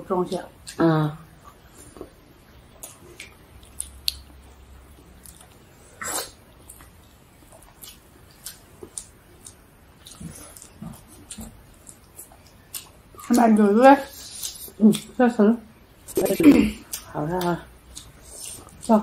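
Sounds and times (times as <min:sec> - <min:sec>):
chewing and lip smacks: 0:01.4 - 0:15.2, 0:16.0 - 0:19.0.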